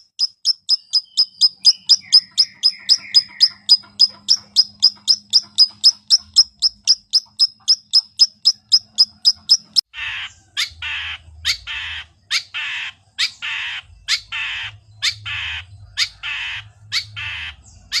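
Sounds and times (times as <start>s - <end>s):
shrike harsh rasping calls: 0.0s - 18.0s.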